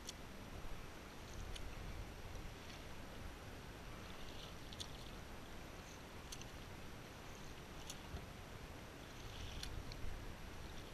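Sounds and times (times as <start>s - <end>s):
paddle splashing water: 1.0s - 10.9s.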